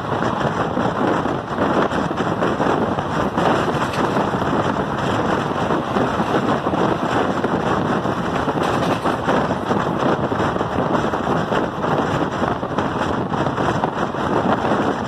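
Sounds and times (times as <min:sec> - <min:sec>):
train wheels on rails: 0:00.0 - 0:15.0
wind buffeting microphone: 0:00.0 - 0:15.0.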